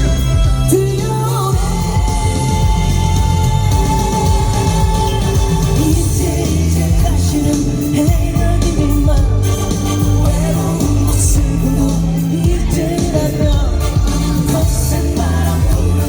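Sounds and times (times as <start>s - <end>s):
live band playing pop song: 0.0s - 16.0s.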